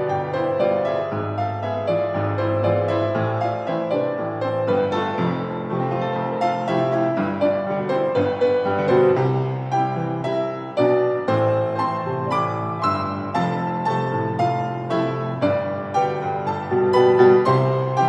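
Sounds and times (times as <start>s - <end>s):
piano playing a tune: 0.0s - 18.0s.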